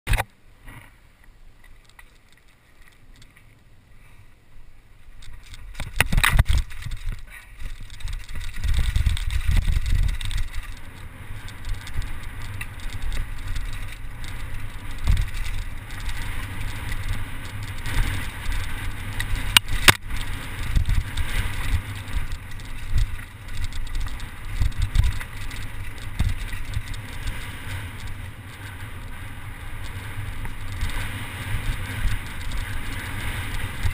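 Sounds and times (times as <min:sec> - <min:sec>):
bike rattling: 0:00.1 - 0:03.8, 0:04.9 - 0:33.9
bike tyres crunching over stones: 0:00.6 - 0:03.7, 0:05.0 - 0:33.9
wind buffeting microphone: 0:05.3 - 0:33.9.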